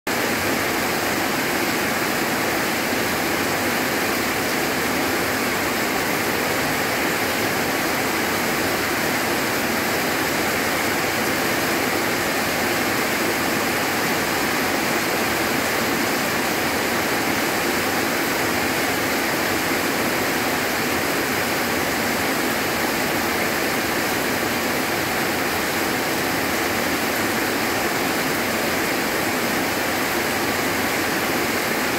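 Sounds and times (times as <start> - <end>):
heavy rain on leaves: 0.1 - 31.9.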